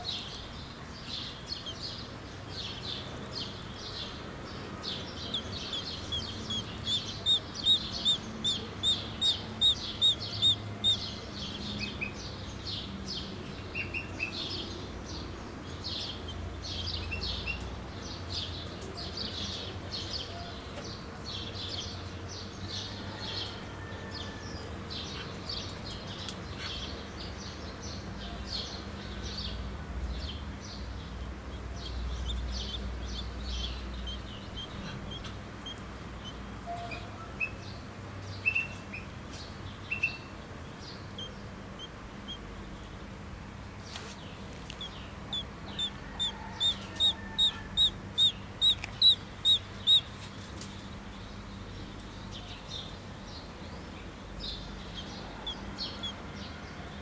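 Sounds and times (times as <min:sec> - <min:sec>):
birds chirping: 0:00.0 - 0:23.6, 0:24.2 - 0:57.0.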